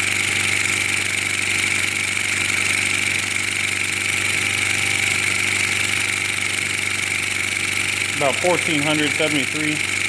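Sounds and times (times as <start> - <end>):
model steam engine running: 0.0 - 10.0.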